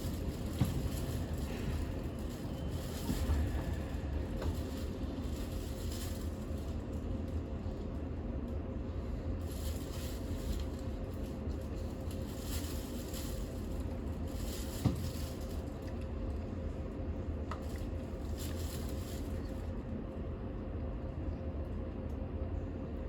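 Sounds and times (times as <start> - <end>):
faint constant hum: 0.0 - 23.0
train interior rumble: 0.0 - 23.0.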